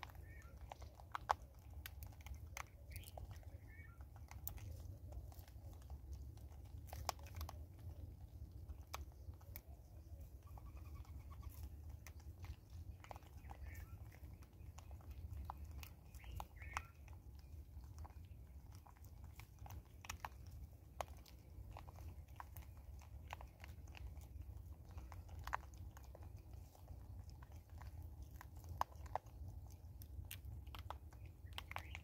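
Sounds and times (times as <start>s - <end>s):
low steady hum: 0.0s - 32.0s
monkeys crunching seeds: 0.0s - 32.0s.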